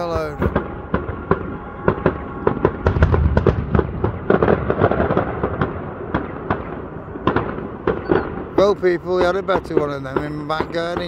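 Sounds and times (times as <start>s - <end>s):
fireworks cracking and banging: 0.0s - 11.0s.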